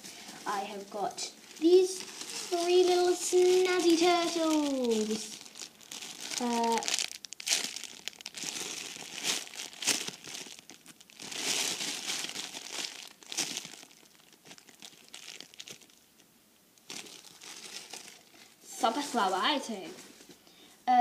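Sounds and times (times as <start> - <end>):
plastic packaging crinkling: 0.0 - 20.3.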